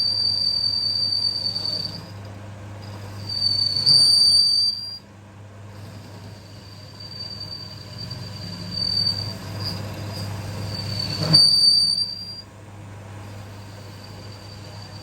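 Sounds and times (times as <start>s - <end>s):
machine high-pitched squeal: 0.0s - 5.1s, 5.9s - 12.5s, 13.2s - 15.0s.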